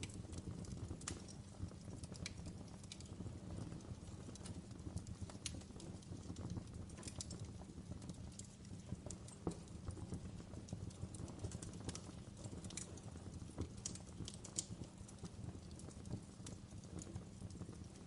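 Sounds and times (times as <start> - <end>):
fire pops and snaps: 0.0 - 18.0
low rumble of flame: 0.0 - 18.0.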